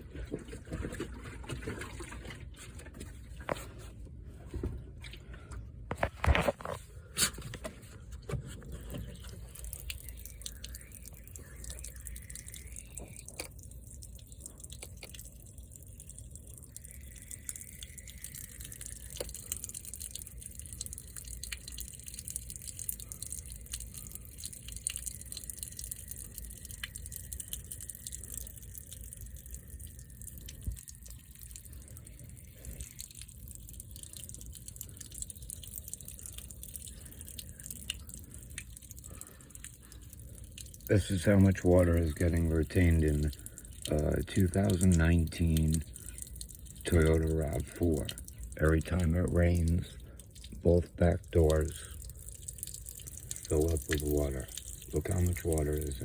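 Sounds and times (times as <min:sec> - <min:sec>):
water dripping and trickling: 0:00.0 - 0:56.0.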